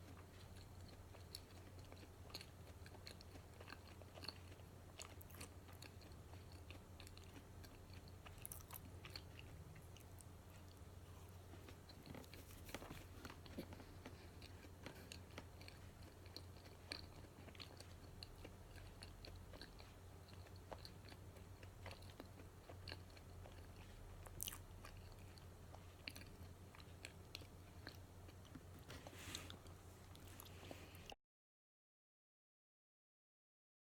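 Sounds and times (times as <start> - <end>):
person chewing: 0.0 - 31.2
steady low hum: 0.0 - 31.2.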